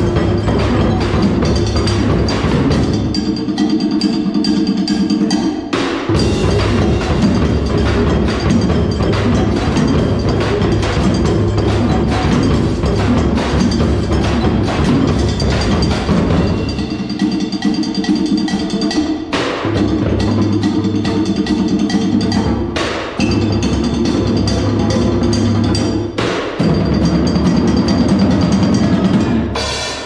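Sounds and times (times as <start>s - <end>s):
djembes: 0.0s - 30.0s
drum kit: 0.0s - 30.0s
stick-struck drum: 4.9s - 30.0s.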